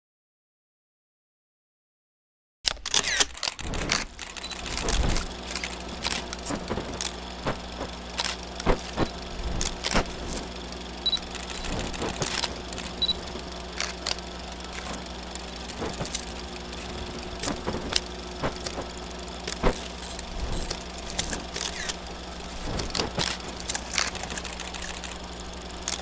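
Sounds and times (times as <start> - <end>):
steady low hum: 2.9 - 26.0
film crackles and pops: 3.4 - 26.0.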